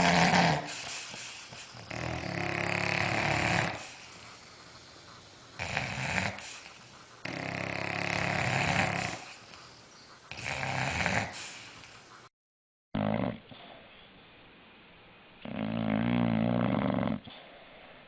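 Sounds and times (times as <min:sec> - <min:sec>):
dog snoring: 0:00.0 - 0:09.7, 0:10.3 - 0:12.0, 0:13.0 - 0:13.9, 0:15.4 - 0:17.8.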